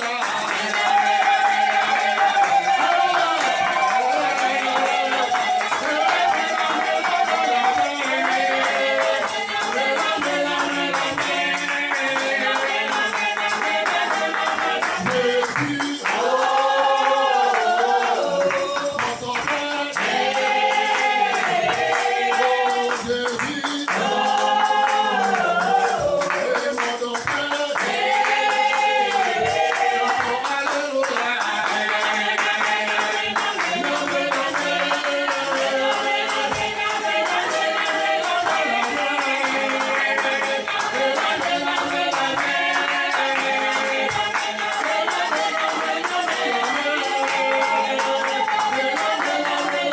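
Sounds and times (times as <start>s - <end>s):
percussion beat: 0.0s - 49.9s.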